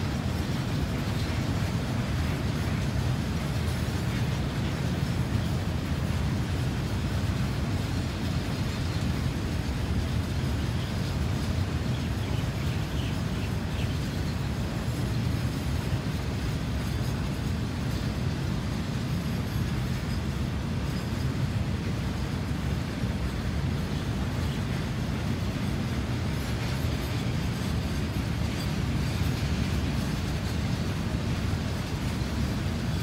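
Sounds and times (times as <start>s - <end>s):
freight train wagons rumbling past: 0.0s - 33.0s.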